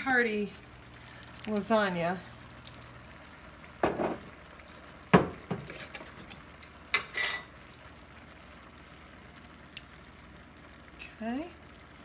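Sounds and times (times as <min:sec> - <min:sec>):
skillet sizzling softly: 0:00.0 - 0:12.0.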